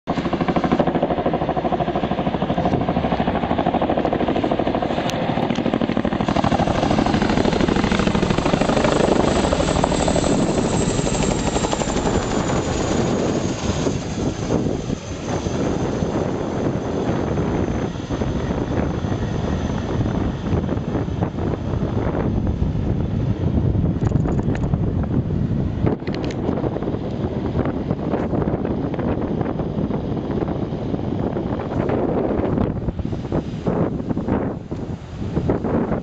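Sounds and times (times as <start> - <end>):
helicopter rotor blades beating: 0.1 - 36.0
high turbine whine: 0.1 - 36.0.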